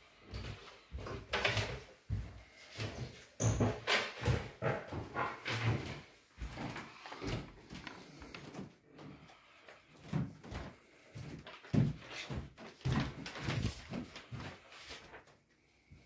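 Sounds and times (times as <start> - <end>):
footsteps on hard floor: 0.2 - 15.4.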